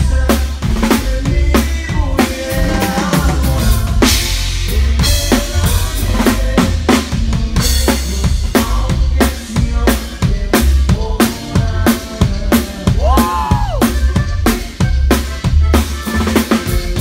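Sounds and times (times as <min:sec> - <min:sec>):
bass drum and snare beat: 0:00.0 - 0:17.0
pitched band instruments: 0:00.0 - 0:17.0.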